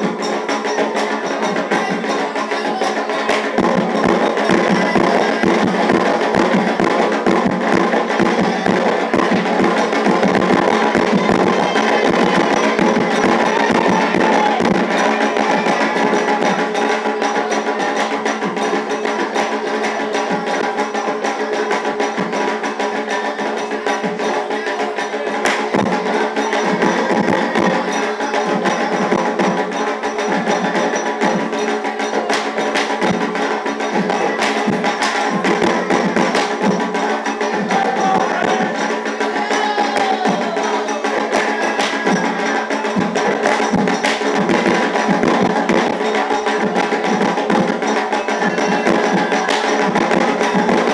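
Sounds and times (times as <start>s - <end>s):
clacking wood block percussion: 0.0s - 50.9s
hand drums: 0.0s - 50.9s.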